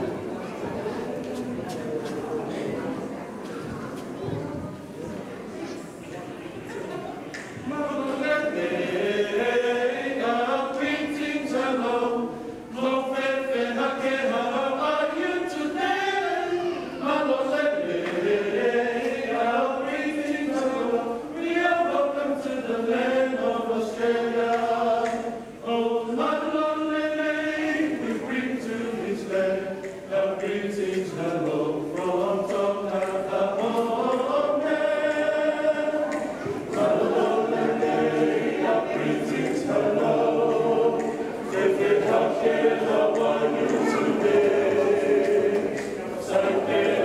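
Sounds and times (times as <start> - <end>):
group singing together: 6.6 - 47.0.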